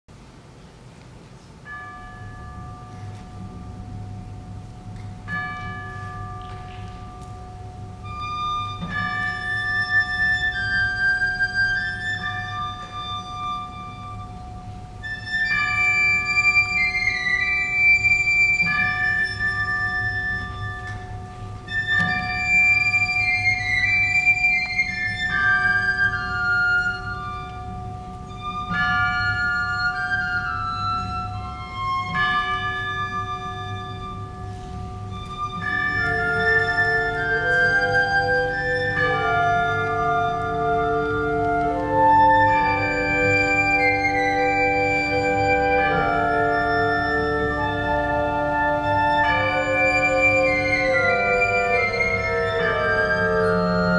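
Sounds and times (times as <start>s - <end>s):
high flute-like melody: 1.7s - 53.9s
wind band playing: 2.8s - 53.9s.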